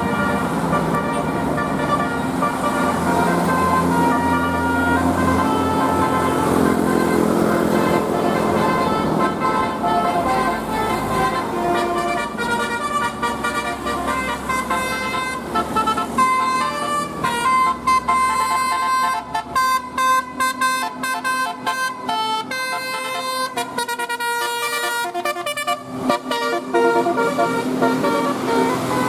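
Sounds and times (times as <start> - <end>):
multi-tone bus horn melody: 0.0 - 29.0.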